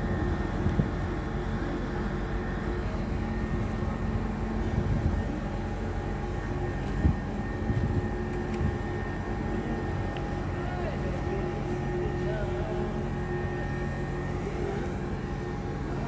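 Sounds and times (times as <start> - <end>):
heavy machinery engine drone: 0.0 - 16.0.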